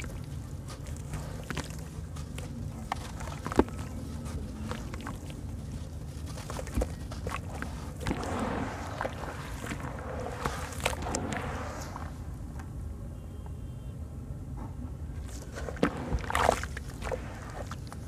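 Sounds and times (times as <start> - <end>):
wet cement squelching in water: 0.0 - 12.4, 15.2 - 18.0.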